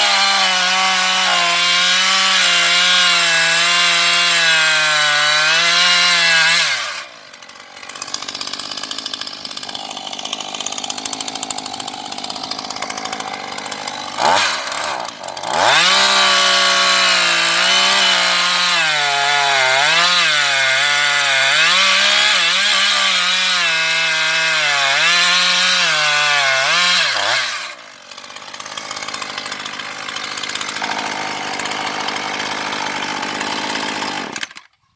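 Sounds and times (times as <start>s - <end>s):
chainsaw cutting wood: 0.0s - 34.8s.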